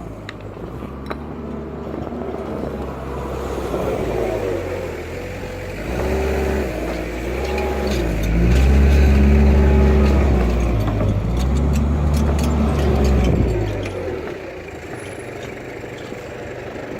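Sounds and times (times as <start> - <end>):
work machine engine running: 2.9 - 16.9.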